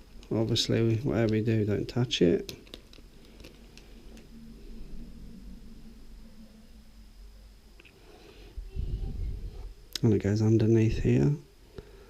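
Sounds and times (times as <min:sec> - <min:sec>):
faint high whine: 0:00.0 - 0:12.0
low hum: 0:00.0 - 0:12.0.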